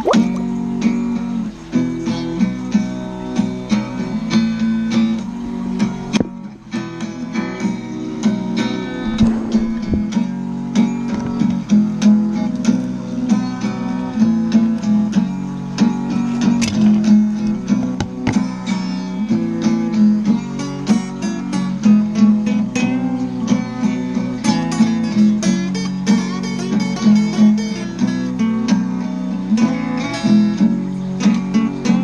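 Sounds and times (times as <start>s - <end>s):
country acoustic guitar music: 0.0s - 32.0s.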